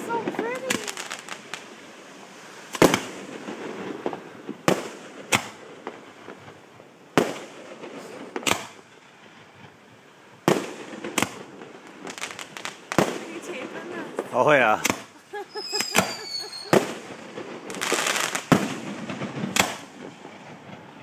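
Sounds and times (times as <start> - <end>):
firework shells bursting: 0.0 - 9.8, 10.4 - 21.0.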